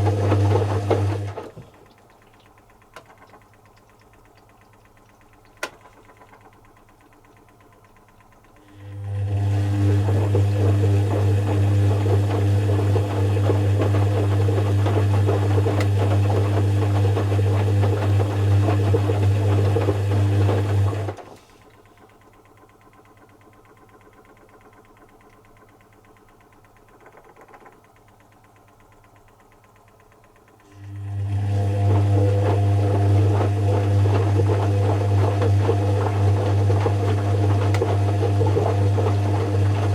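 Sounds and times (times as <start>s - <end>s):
washing machine motor humming: 0.0s - 39.9s.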